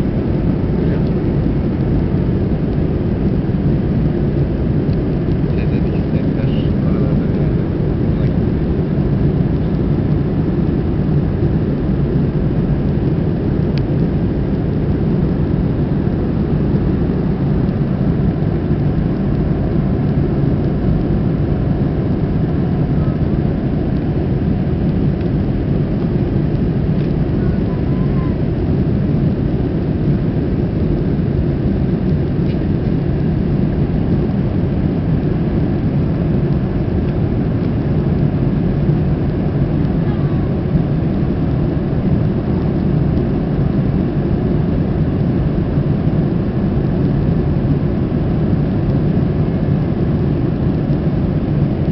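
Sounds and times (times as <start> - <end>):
jet engines rumbling: 0.0 - 51.9.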